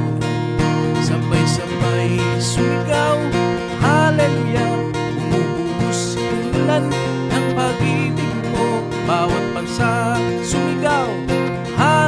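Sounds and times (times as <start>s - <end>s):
person singing: 0.0s - 12.0s
strummed acoustic guitar: 0.0s - 12.0s.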